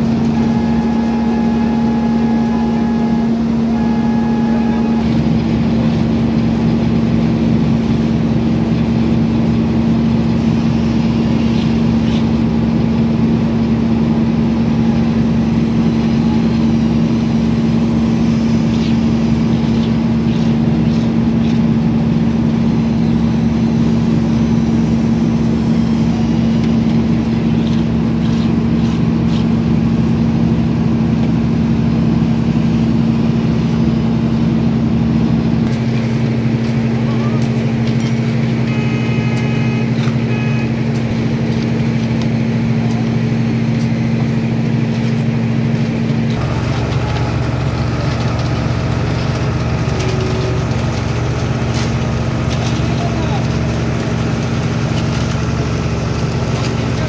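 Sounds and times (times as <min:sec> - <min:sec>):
machine drone: 0:00.0 - 0:57.0.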